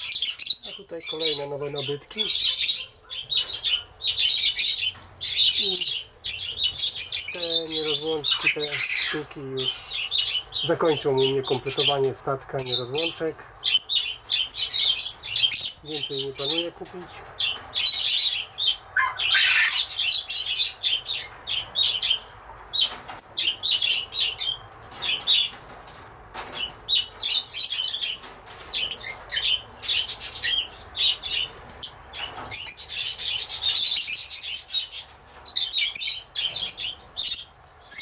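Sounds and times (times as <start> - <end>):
lovebirds chirping: 0.0 - 38.0.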